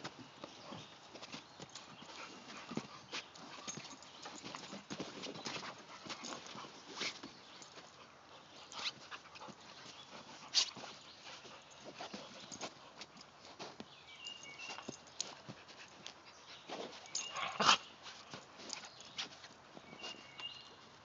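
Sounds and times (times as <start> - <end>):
dogs scuffling and mouthing: 0.0 - 21.0.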